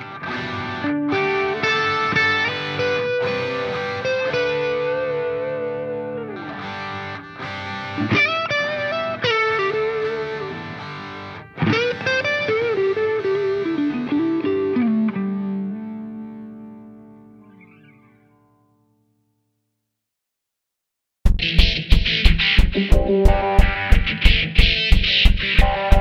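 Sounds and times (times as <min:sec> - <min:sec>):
distorted electric guitar melody: 0:00.0 - 0:19.0, 0:21.3 - 0:26.0.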